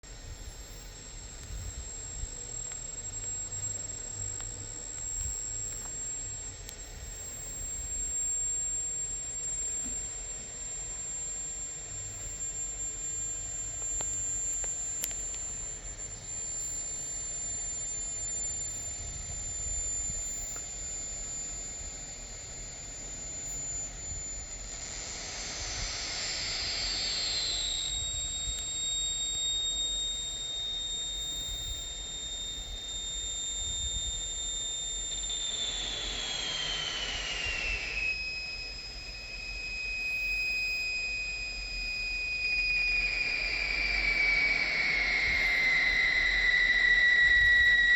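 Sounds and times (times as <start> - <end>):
high-pitched electronic whine: 0.0 - 47.9.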